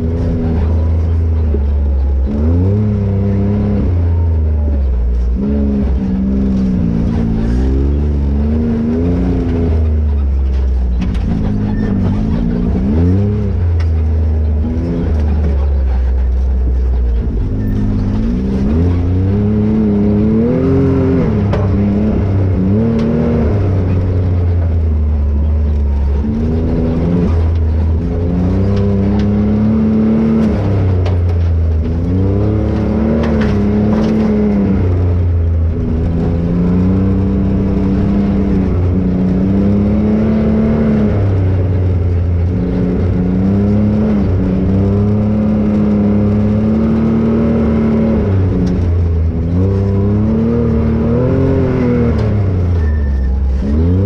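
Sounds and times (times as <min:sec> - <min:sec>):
engine revving: 0:00.0 - 0:54.0.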